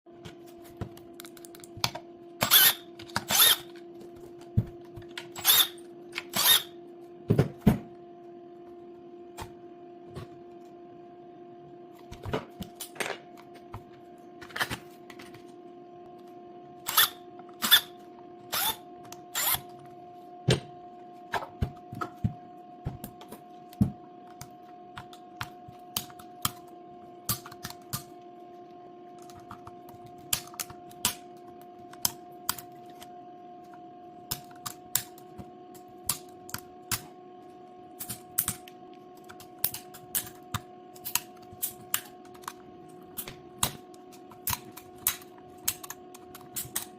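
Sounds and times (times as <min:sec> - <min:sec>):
steady electrical hum: 0:00.1 - 0:46.9.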